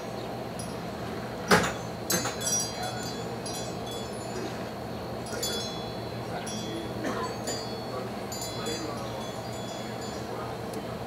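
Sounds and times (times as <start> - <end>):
light metallic chimes: 2.1 - 11.0.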